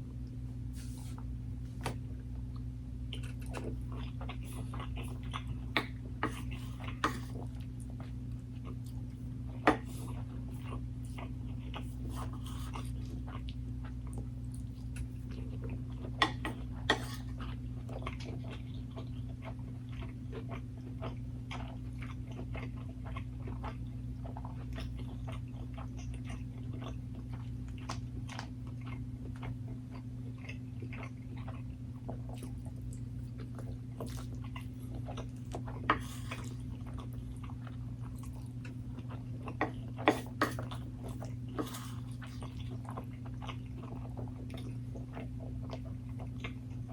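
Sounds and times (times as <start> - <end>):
chewing and biting food: 1.7 - 46.9.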